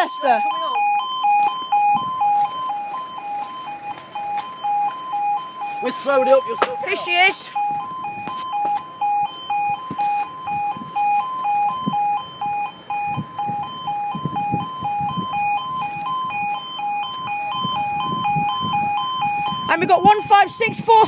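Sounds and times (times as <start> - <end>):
level crossing two-tone alarm: 0.0 - 21.0.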